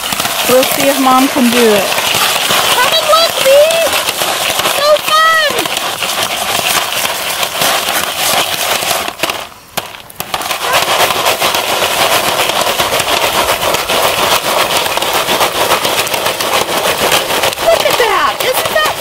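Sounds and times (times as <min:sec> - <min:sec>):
popcorn popping: 0:00.0 - 0:19.0.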